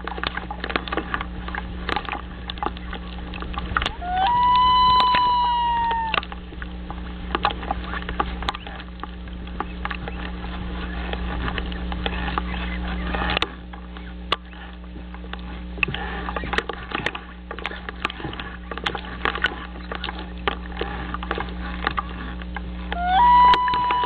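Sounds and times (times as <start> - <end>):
crackling clicks and rustling: 0.0 - 4.0, 6.1 - 23.0
low electrical hum: 0.0 - 24.0.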